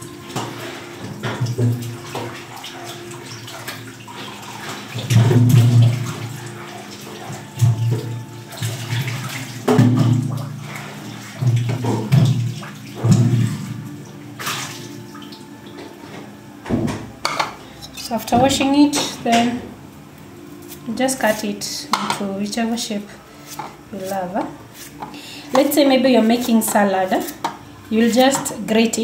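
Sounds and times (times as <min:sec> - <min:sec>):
water splashing: 0:00.0 - 0:15.9, 0:20.4 - 0:29.0.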